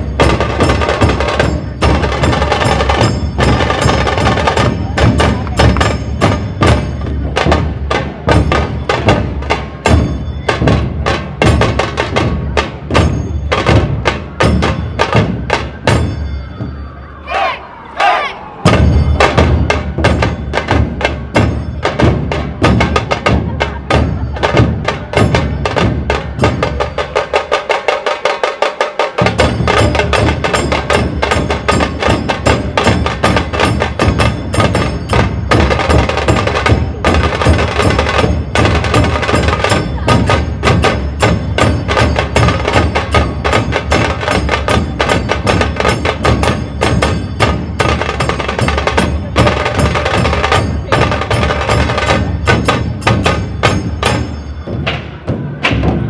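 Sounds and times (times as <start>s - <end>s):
deep barrel drums: 0.0s - 16.8s, 18.6s - 56.0s.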